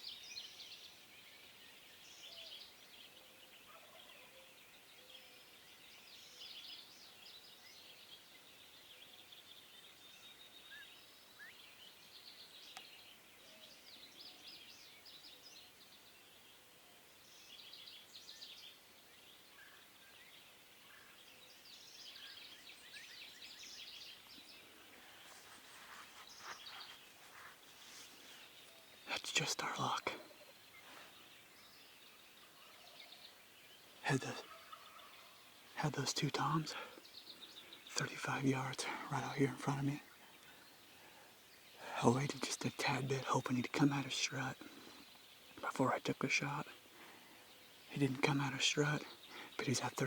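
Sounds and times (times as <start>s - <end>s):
songbirds singing: 0.0s - 50.0s
background hiss: 4.5s - 50.0s.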